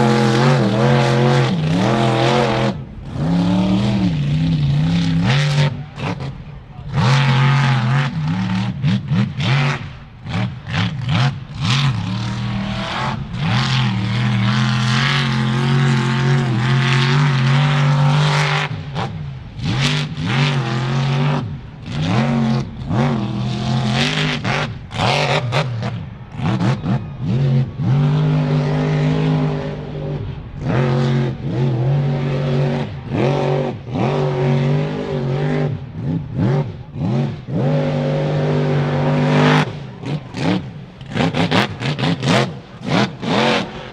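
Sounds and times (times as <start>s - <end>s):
truck engine revving: 0.0s - 43.9s.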